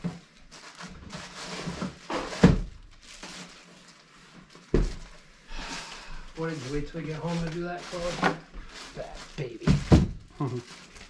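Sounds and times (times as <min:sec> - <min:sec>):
rummaging in cardboard box: 0:00.0 - 0:11.0.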